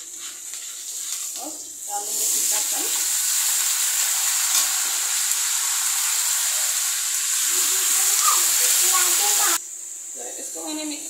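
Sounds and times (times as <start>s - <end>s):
pumpkin sizzling in hot oil: 0.0s - 9.6s.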